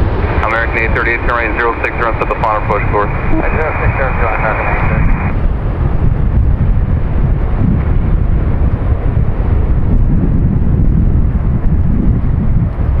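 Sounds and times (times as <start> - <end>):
jet airliner engines rumbling: 0.0 - 13.0
wind buffeting microphone: 0.0 - 13.0.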